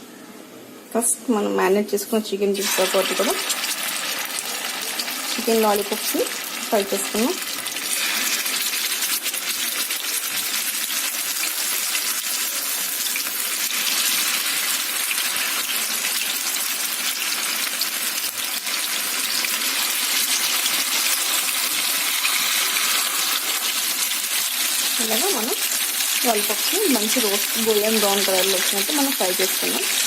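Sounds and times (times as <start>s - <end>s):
deep-frying sizzle and crackling: 2.5s - 30.0s.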